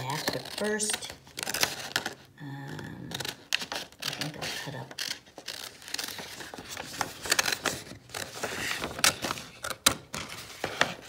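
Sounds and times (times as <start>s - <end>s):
paper rustling: 0.0s - 2.4s, 3.1s - 11.0s
scissors snipping paper: 0.0s - 10.0s.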